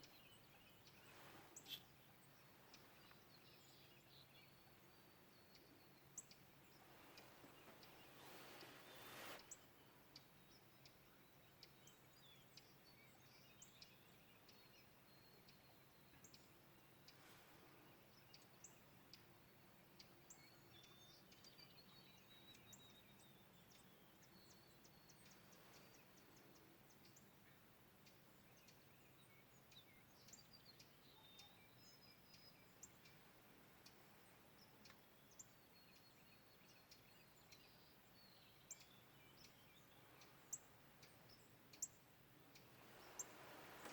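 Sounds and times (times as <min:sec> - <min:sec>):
faint bird chirps: 0:00.0 - 0:43.9.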